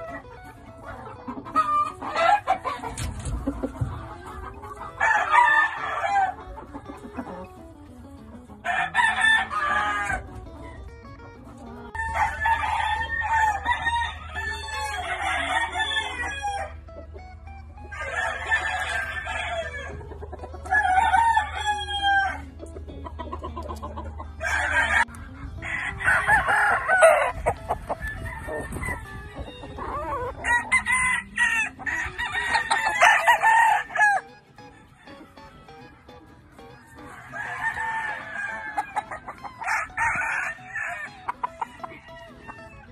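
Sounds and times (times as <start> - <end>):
roosters crowing: 0.0 - 7.5, 8.6 - 10.3, 11.9 - 16.9, 17.8 - 22.6, 23.9 - 36.0, 36.6 - 42.9.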